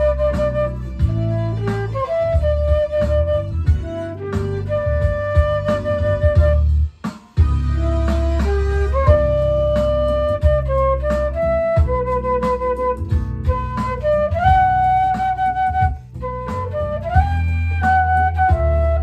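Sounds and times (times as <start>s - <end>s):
flute-like melody: 0.0s - 19.0s
steady bass: 0.0s - 19.0s
drum beat: 0.4s - 17.4s.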